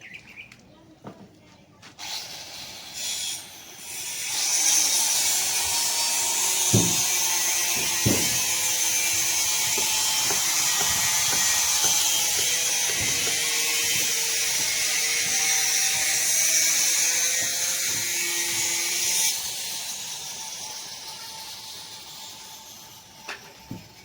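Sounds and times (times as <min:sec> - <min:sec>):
mechanical rattling and rasping: 0:03.0 - 0:24.0.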